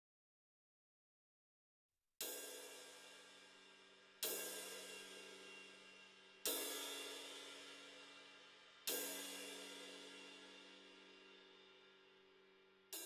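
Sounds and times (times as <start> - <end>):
ride cymbal struck with drumstick: 2.2 - 13.0.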